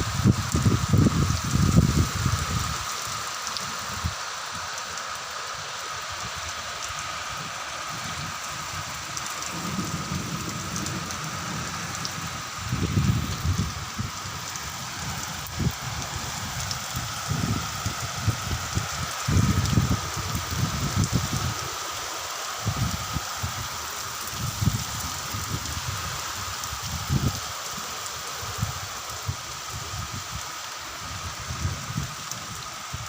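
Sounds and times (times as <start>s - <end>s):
heavy rain hiss: 0.0s - 33.0s.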